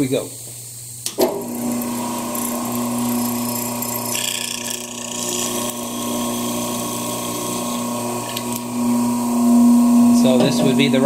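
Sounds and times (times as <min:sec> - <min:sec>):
boring machine humming: 0:01.1 - 0:11.0
chisel cutting wood: 0:01.2 - 0:11.0.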